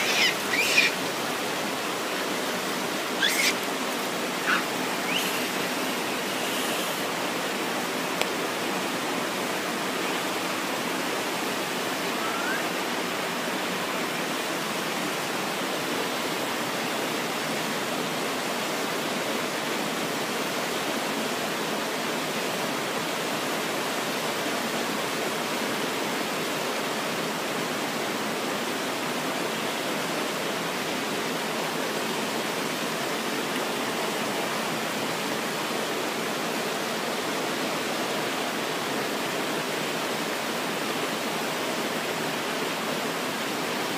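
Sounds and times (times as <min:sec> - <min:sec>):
river rushing over rocks: 0:00.0 - 0:43.9.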